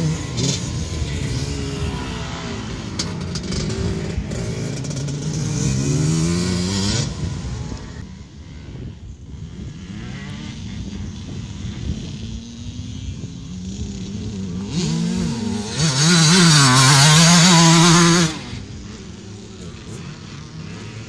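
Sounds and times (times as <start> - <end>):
distant engine: 0.0 - 21.0
motorcycle engine revving: 0.0 - 21.0.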